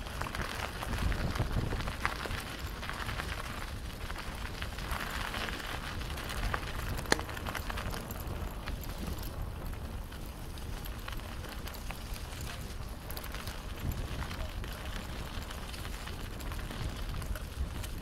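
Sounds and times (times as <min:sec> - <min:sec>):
bicycle tyres on gritty trail: 0:00.0 - 0:18.0
wind rumbling on microphone: 0:00.0 - 0:18.0.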